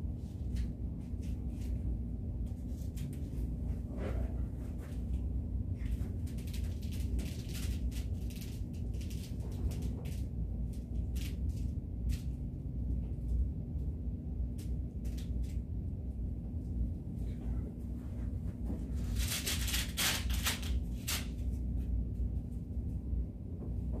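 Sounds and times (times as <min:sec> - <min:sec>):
low room hum: 0:00.0 - 0:24.0
rustling and handling noise: 0:00.0 - 0:24.0.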